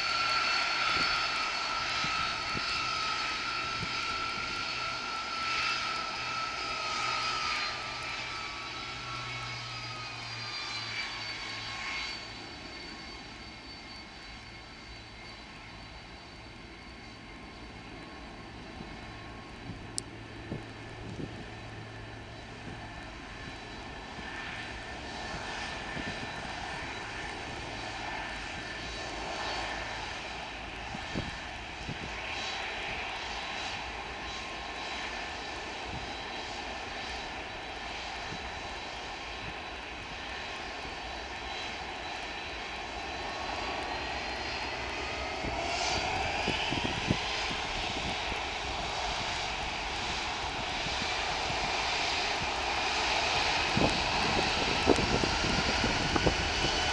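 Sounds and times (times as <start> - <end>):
jet engines roaring and whining: 0.0 - 56.9.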